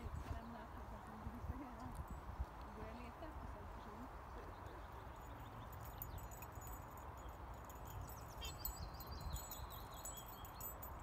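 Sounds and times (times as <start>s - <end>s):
small birds chirping: 0.0s - 11.0s
wind rumble on microphone: 0.0s - 11.0s.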